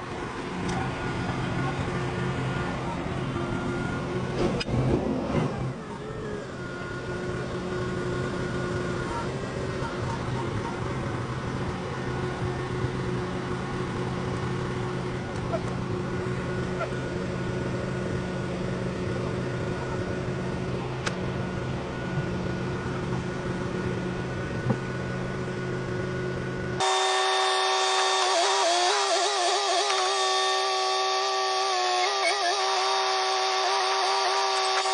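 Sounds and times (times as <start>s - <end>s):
heavy equipment engine running: 0.0s - 34.9s.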